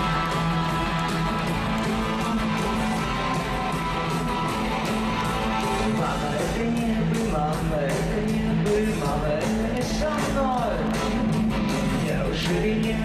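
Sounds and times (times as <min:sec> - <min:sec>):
live rock band playing: 0:00.0 - 0:13.0
strummed electric guitar: 0:00.0 - 0:13.0.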